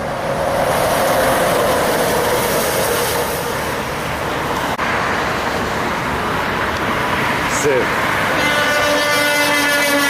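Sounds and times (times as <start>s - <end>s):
heavy truck passing: 0.0s - 10.0s.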